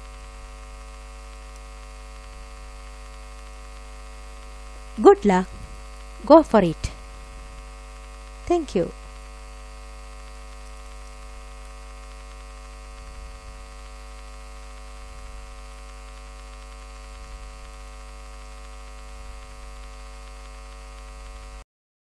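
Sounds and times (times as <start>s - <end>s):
electrical mains hum: 0.0s - 21.6s.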